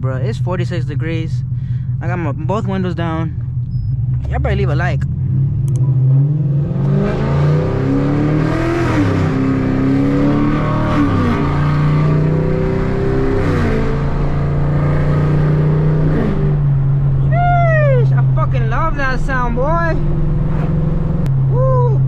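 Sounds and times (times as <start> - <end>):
car engine accelerating through gears: 3.4 - 18.8, 19.5 - 21.7.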